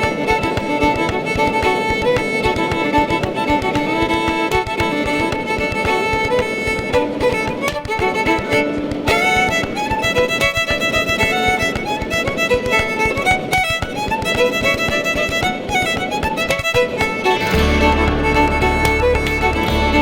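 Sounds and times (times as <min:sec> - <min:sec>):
fiddle music with fast rhythm: 0:00.0 - 0:20.0.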